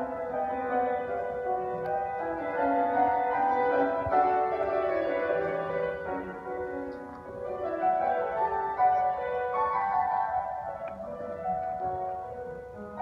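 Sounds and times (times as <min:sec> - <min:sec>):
grand piano melody: 0:00.0 - 0:13.0.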